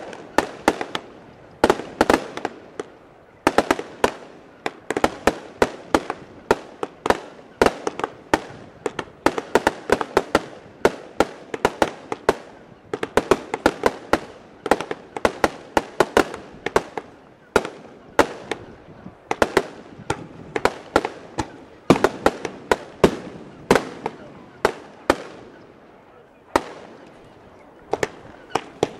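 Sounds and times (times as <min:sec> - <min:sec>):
fireworks bangs: 0:00.0 - 0:28.9.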